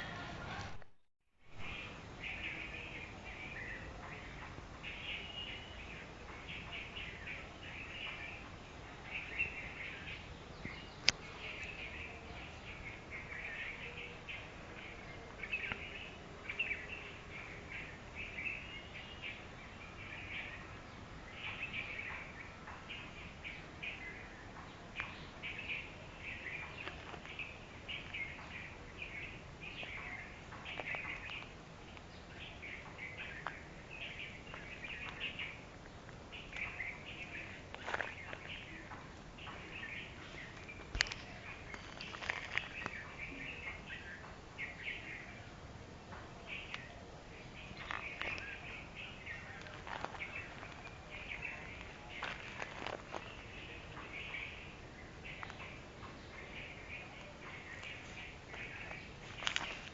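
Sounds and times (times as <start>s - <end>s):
wild birds chirping: 1.5s - 59.9s.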